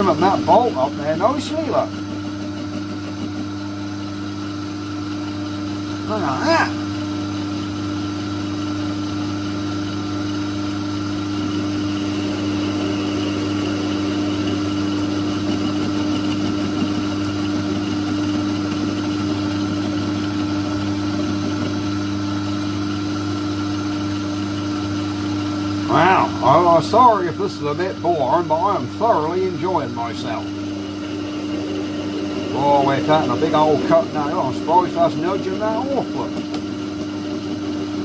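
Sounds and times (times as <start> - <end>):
lathe motor humming: 0.0 - 38.0.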